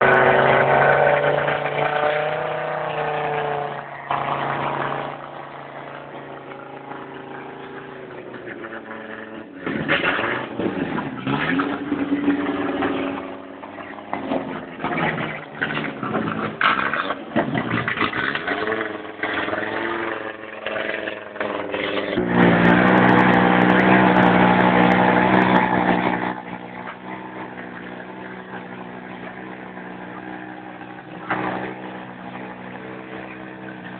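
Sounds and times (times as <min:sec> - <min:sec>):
rally car engine revving: 0:00.0 - 0:33.9.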